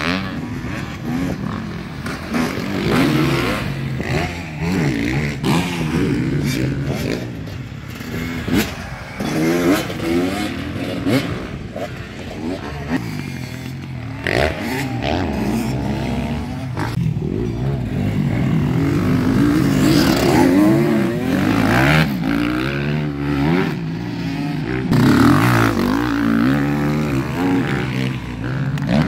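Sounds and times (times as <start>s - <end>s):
dirt bikes revving past: 0.0s - 29.0s.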